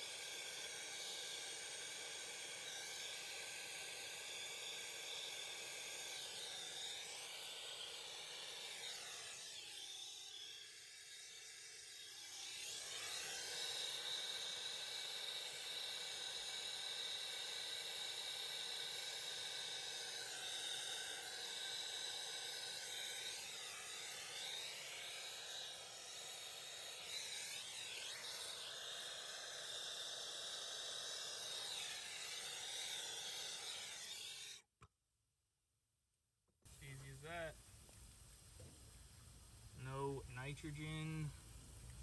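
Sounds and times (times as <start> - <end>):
gas torch flame hissing: 0.0 - 34.6, 36.7 - 42.0.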